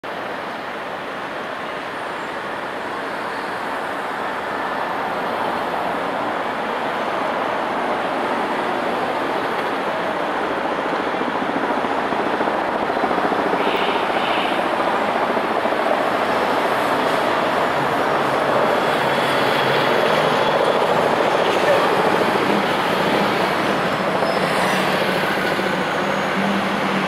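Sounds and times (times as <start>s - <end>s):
car and tyre noise: 0.0s - 27.0s.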